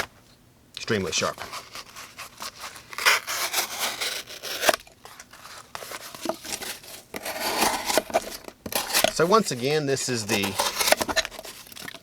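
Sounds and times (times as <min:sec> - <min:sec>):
knife slicing through cardboard: 0:01.4 - 0:11.7.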